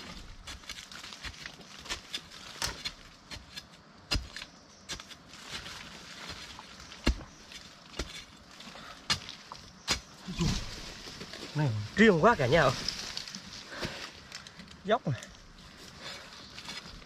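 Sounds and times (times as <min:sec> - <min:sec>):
dirt clicks and scrapes: 0:00.0 - 0:17.0.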